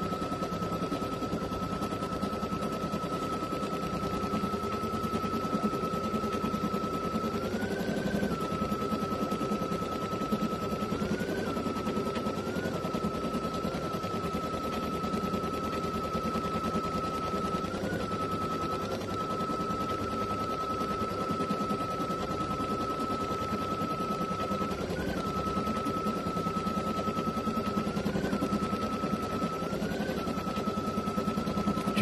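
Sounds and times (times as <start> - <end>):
embroidery machine whine: 0.0 - 32.0.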